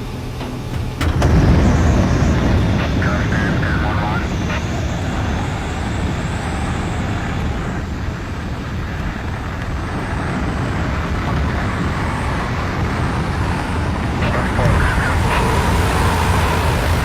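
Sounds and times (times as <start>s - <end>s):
airplane engine rumble: 0.0s - 17.0s
wind noise: 0.0s - 17.0s.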